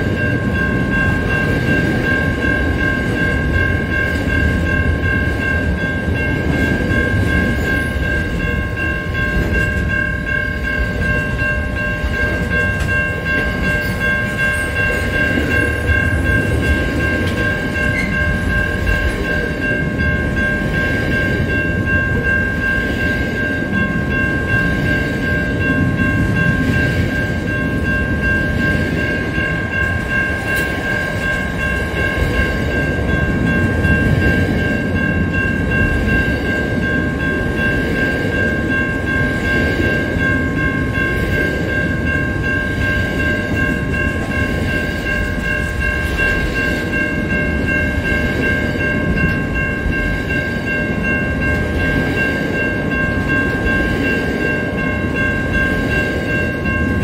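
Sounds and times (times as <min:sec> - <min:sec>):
freight wagons rumbling over rails: 0:00.0 - 0:57.0.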